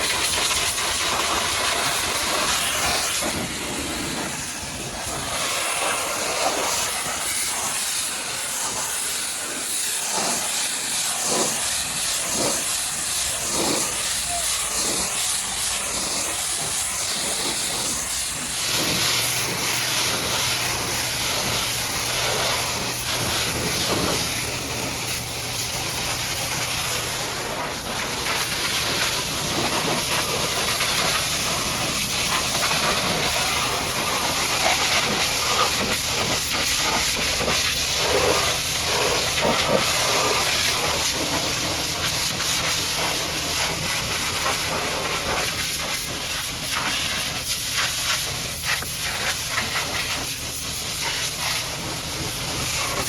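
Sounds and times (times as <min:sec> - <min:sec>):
pressure washer spraying water: 0:00.0 - 0:53.0.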